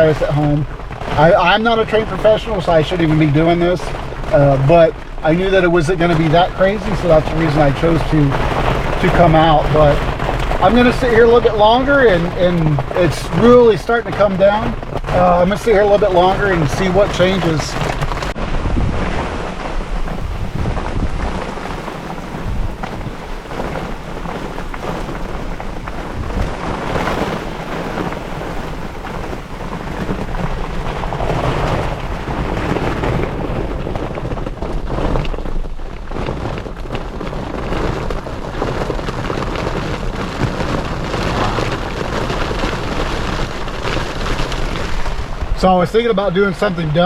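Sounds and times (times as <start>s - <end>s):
rain pelting car roof: 0.0s - 47.0s.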